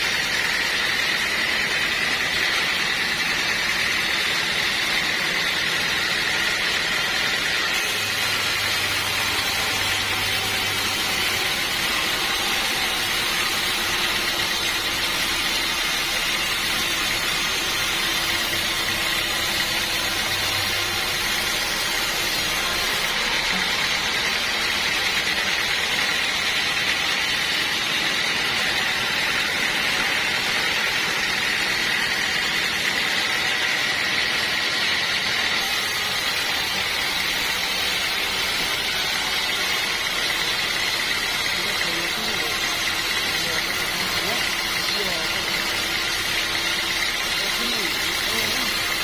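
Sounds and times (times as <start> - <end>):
sawmill machinery drone: 0.0 - 49.0.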